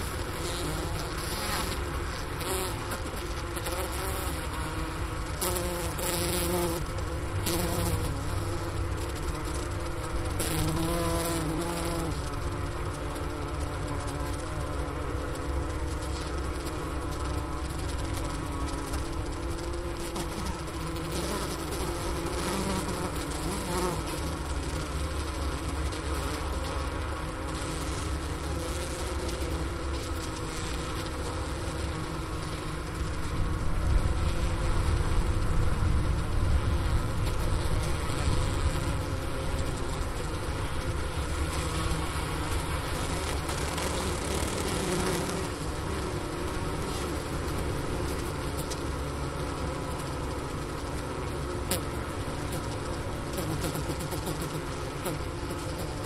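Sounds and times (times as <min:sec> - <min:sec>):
bees humming in hive: 0:00.0 - 0:56.0.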